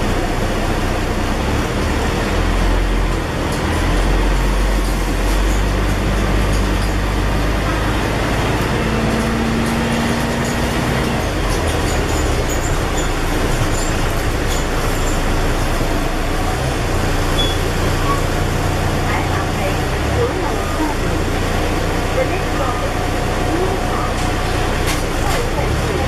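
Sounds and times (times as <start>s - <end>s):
diesel bus engine drone: 0.0s - 26.0s
road and body noise: 0.0s - 26.0s.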